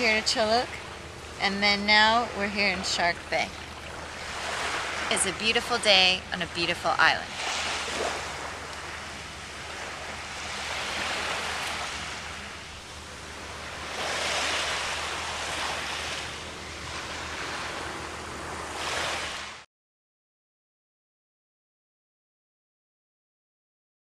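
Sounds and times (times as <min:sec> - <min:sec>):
sea waves washing onto shore: 0:00.0 - 0:19.6.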